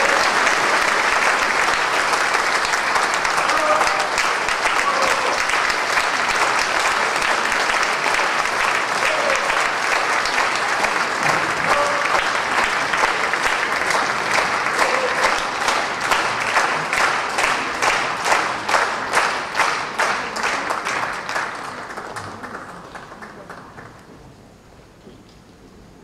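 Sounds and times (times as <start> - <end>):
audience applauding: 0.0 - 24.1.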